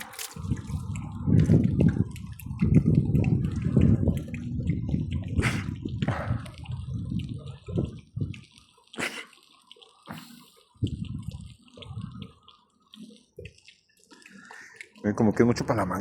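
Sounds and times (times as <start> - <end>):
water gushing from hose: 0.0 - 16.0.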